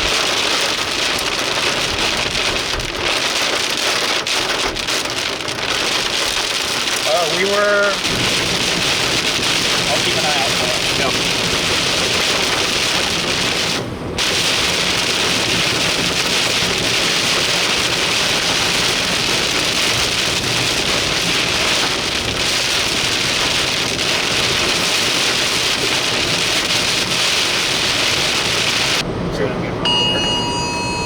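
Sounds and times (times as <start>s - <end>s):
heavy rain on a vehicle: 0.0s - 31.0s.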